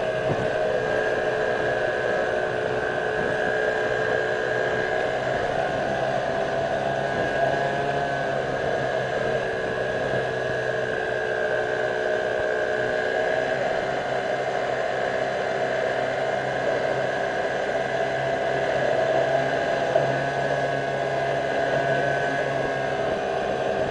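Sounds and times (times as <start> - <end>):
outboard motor running: 0.0 - 23.9.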